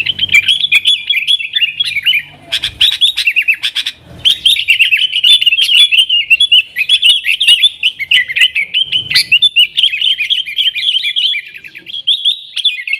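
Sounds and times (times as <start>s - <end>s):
bird chattering song: 0.0s - 12.9s.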